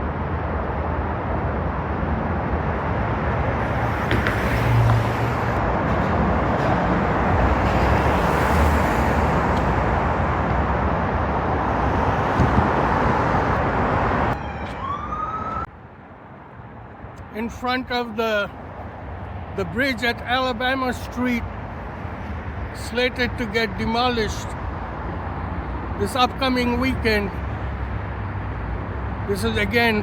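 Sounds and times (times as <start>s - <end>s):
heavy freeway traffic: 0.0s - 30.0s
vehicles passing: 0.0s - 30.0s.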